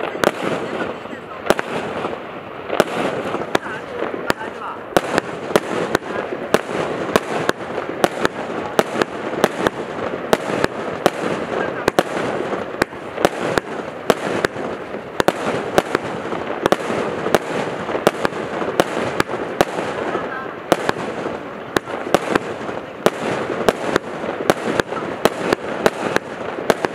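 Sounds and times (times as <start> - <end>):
fireworks launches and bursts: 0.0 - 26.9
fireworks sharp bangs: 0.0 - 26.9.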